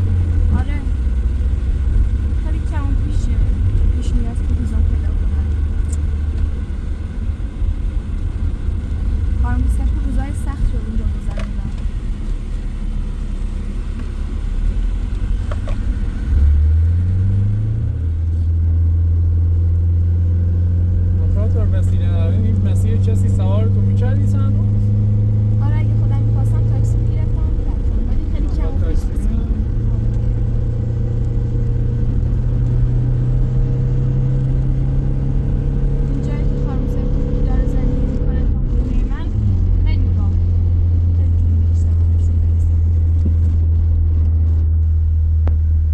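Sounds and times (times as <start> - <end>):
vehicle engine revving: 0.0 - 45.9.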